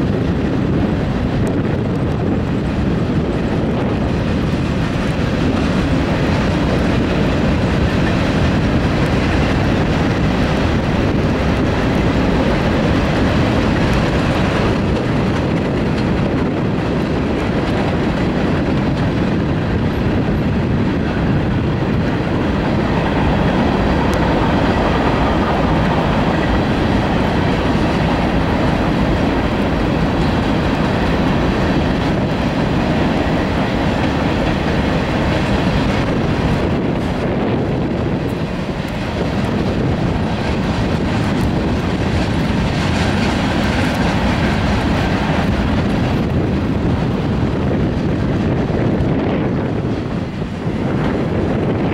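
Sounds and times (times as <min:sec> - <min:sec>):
freight train rumbling past: 0:00.0 - 0:51.9
steel wheels clattering on rails: 0:00.0 - 0:51.9.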